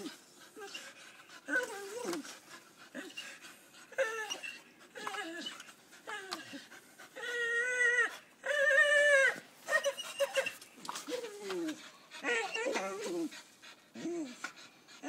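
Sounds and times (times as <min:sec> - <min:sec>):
dog whining: 0:00.0 - 0:13.4.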